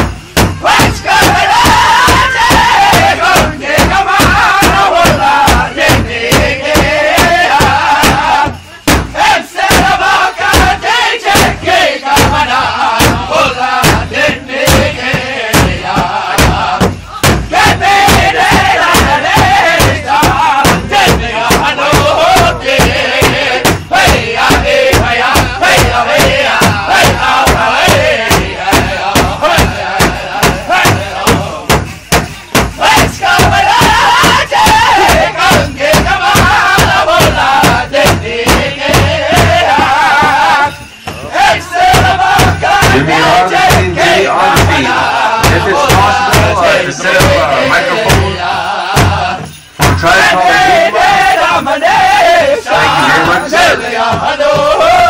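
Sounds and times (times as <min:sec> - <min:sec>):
big drum beating: 0:00.0 - 0:55.0
group singing in high voices: 0:00.0 - 0:55.0.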